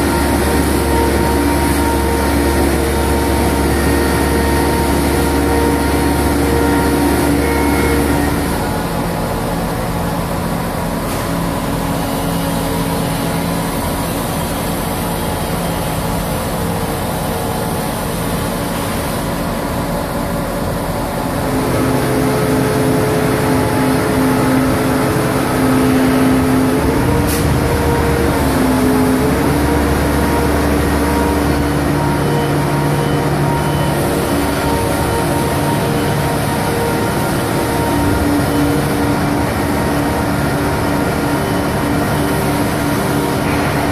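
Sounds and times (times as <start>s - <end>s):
heavy vehicle engine humming: 0.0s - 43.9s.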